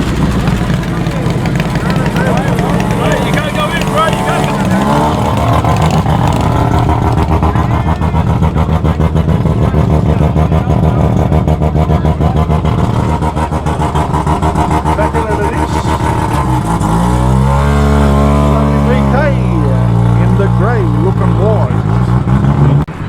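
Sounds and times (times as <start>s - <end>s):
car engine idling loudly: 0.0s - 23.0s.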